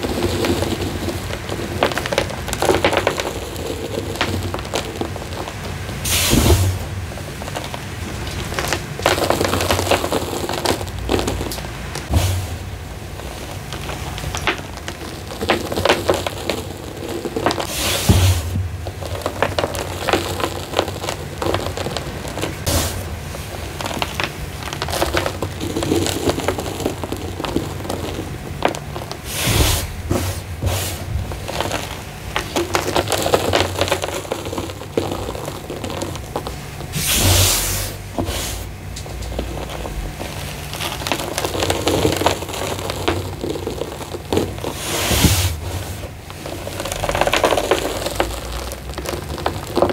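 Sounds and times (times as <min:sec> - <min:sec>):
powder crunching by hand: 0:00.0 - 0:49.9
powder dropped with hiss: 0:00.0 - 0:49.9.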